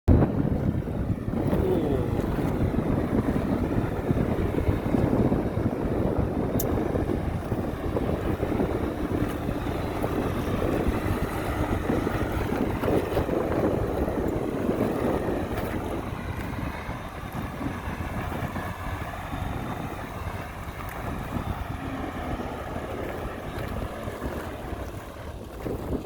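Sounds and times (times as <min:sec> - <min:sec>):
heavy diesel machinery rumbling: 0:00.1 - 0:26.0.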